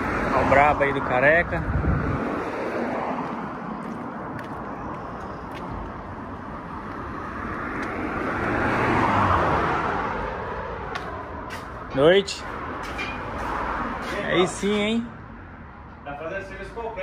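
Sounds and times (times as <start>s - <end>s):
road traffic noise: 0.0s - 17.0s
vehicle passing: 0.0s - 17.0s.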